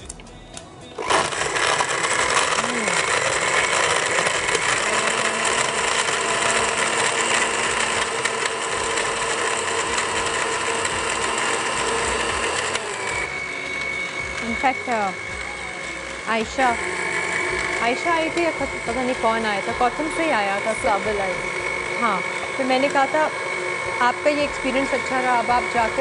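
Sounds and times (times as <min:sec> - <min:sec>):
blender crushing ice: 0:01.0 - 0:26.0.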